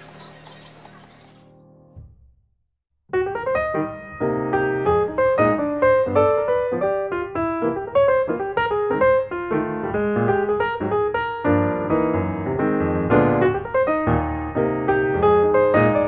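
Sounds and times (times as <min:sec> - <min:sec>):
piano music: 0:00.0 - 0:02.0, 0:03.1 - 0:16.0.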